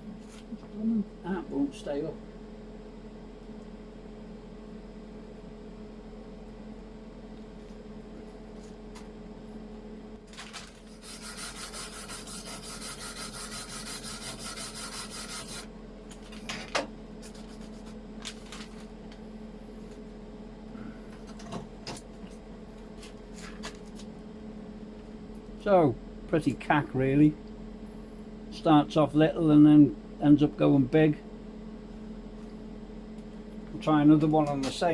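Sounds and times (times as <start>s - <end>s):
electrical hum: 0.0s - 34.9s.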